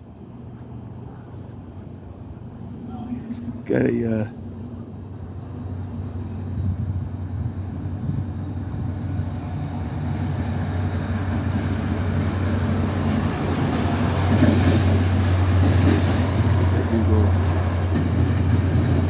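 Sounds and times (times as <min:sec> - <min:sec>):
train engine hum: 0:00.0 - 0:19.0.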